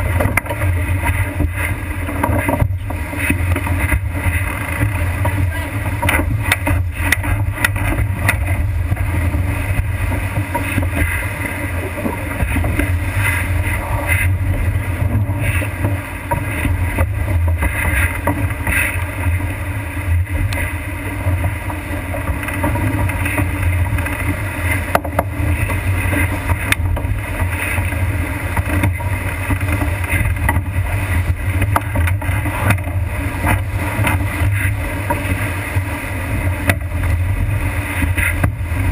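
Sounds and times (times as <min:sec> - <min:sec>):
water rushing along hull: 0:00.0 - 0:38.9
wind rumbling on microphone: 0:00.0 - 0:38.9.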